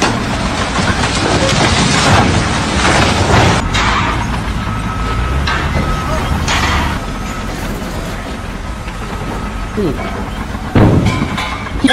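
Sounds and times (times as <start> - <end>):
heavy rumbling crash: 0.0 - 11.9
workshop noise: 1.9 - 11.9.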